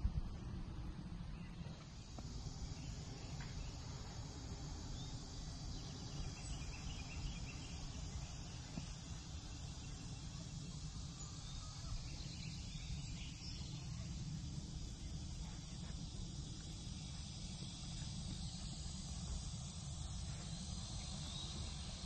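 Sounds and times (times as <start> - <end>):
insects hissing: 1.2 - 22.0.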